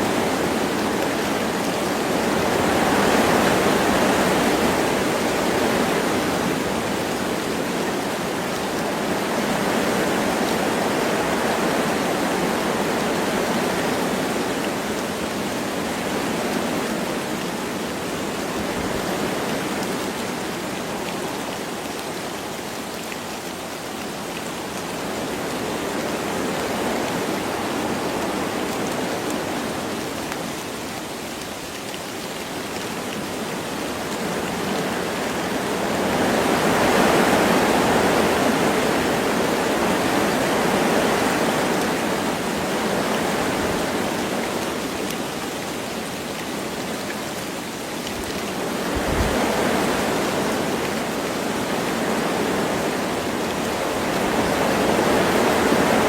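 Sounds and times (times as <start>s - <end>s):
light rain falling: 0.0s - 56.0s
wind through trees: 0.0s - 56.0s.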